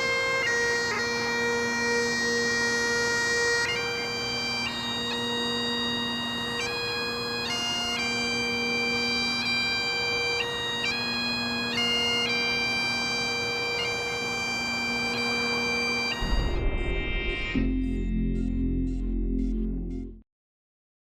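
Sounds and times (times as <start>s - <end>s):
bagpipes playing slow melody: 0.0s - 20.2s.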